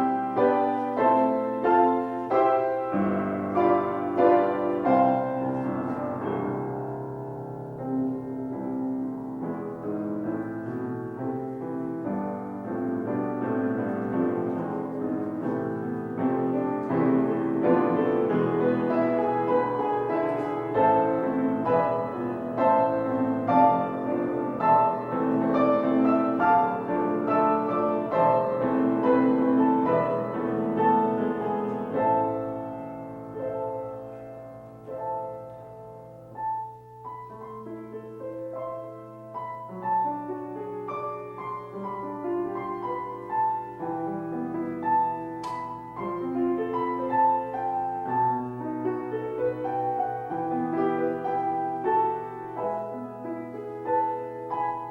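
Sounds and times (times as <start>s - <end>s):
slow gentle solo piano: 0.0s - 54.9s.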